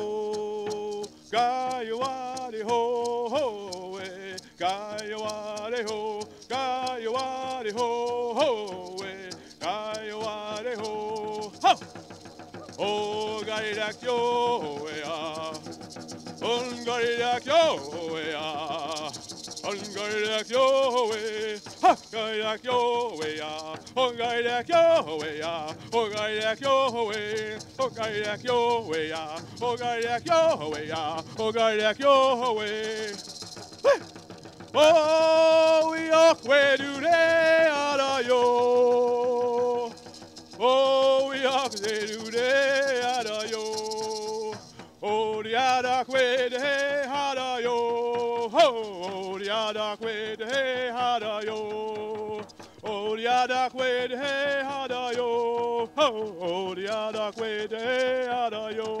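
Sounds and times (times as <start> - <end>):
hand rattle shaking: 0.0 - 59.0
man singing: 0.0 - 59.0.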